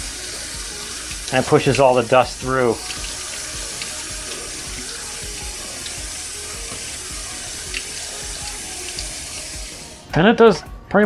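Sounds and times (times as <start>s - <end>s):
faucet water splashing in sink: 0.0s - 10.0s.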